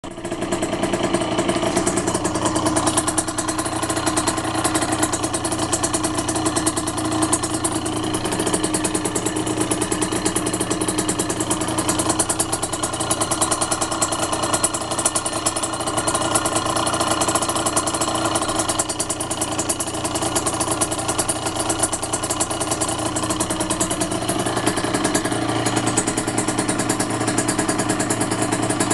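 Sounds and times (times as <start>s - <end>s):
vehicle engine running: 0.0s - 28.9s.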